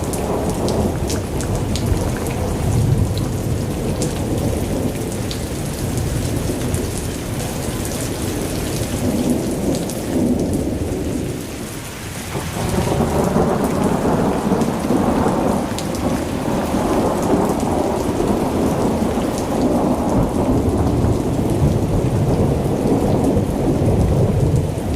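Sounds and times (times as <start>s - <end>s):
low rumble of thunder: 0.0s - 24.9s
rain falling: 0.0s - 24.9s.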